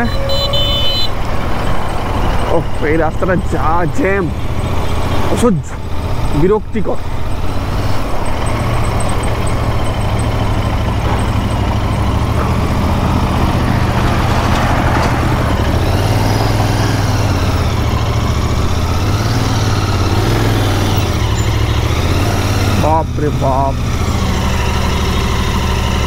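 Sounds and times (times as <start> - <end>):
motorcycle engine at low revs: 1.1 - 26.0.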